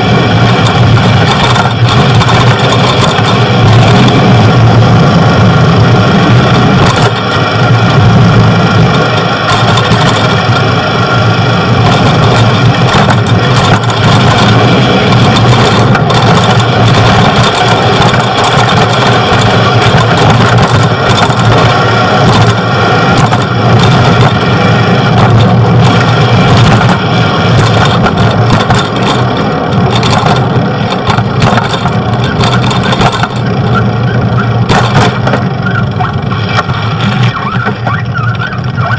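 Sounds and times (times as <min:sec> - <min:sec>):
road traffic and engine noise: 0:00.0 - 0:38.9
short clicks and rattles: 0:00.4 - 0:04.3, 0:06.5 - 0:08.0, 0:08.7 - 0:10.8, 0:11.6 - 0:35.8.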